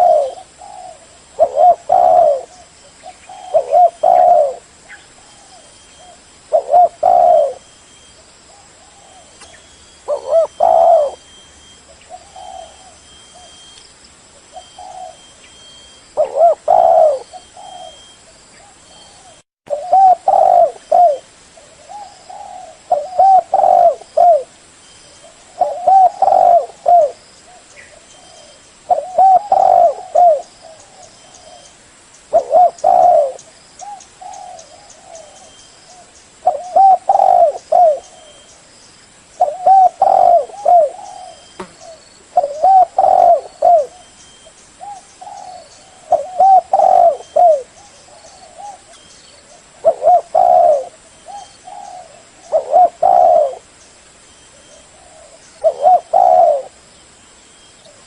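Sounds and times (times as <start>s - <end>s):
dove cooing: 0.0s - 13.7s, 14.5s - 24.6s, 25.2s - 31.7s, 32.3s - 38.5s, 39.4s - 53.7s, 54.5s - 56.8s.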